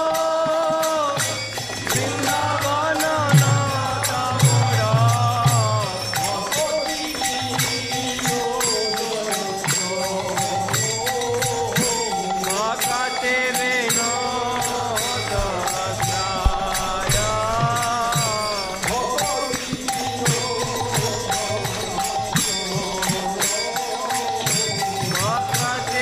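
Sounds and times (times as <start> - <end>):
jingling hand percussion: 0.0 - 26.0
voices singing devotional melody: 0.0 - 26.0.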